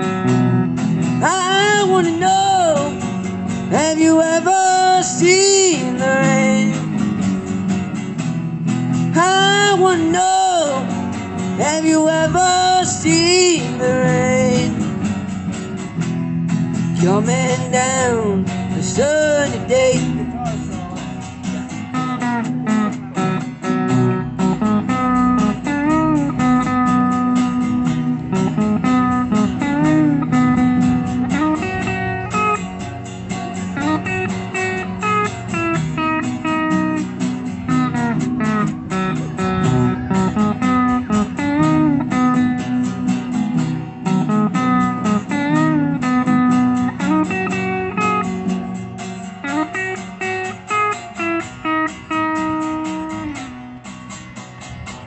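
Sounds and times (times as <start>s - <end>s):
bass guitar: 0.0s - 55.0s
lead guitar with bent notes: 0.0s - 55.0s
strummed rhythm guitar: 0.0s - 55.0s.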